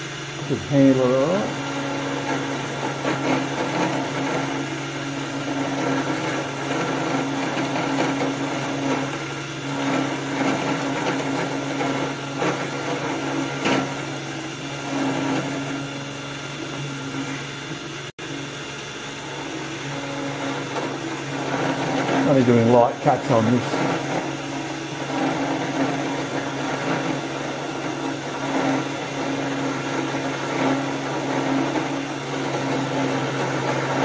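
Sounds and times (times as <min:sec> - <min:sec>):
motor whine: 0:00.0 - 0:34.0
end mill rasping in metal: 0:00.4 - 0:15.9, 0:19.8 - 0:34.0.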